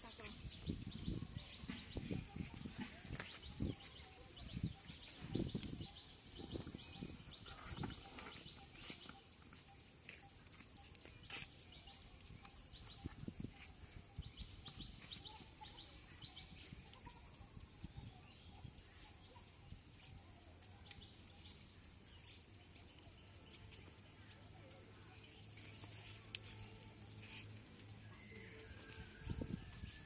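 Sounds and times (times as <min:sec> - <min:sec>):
bird chirping: 0:00.0 - 0:30.0
faint outdoor ambience: 0:00.0 - 0:30.0.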